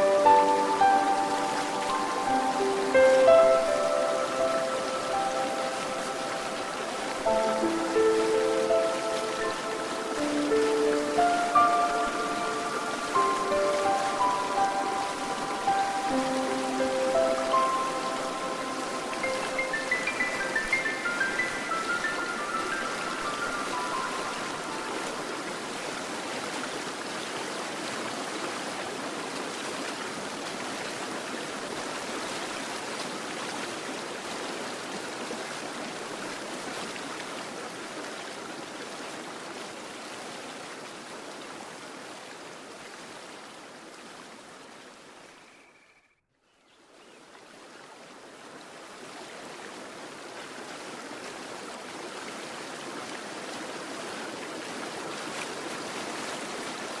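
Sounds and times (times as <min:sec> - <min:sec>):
stream water rushing: 0:00.0 - 0:45.6, 0:46.9 - 0:57.0.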